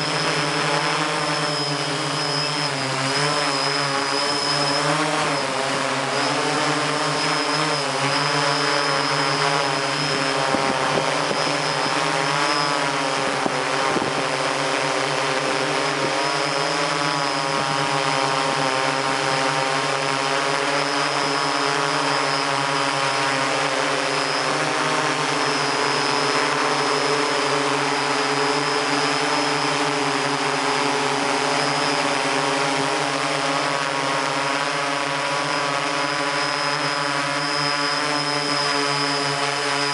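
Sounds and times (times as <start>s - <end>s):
thin high steady tone: 0.0s - 13.3s, 15.2s - 39.9s
drone motors whining: 0.0s - 39.9s.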